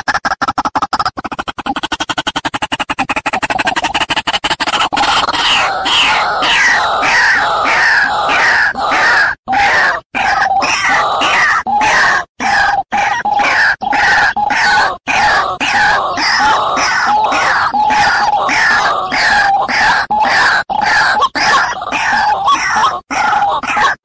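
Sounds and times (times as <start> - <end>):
waterhen croaking calls: 0.0 - 24.0.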